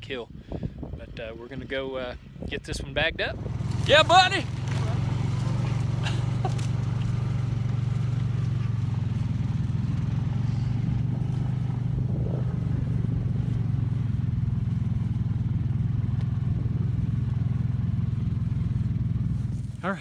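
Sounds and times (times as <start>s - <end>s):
atv engine running: 0.4s - 20.0s.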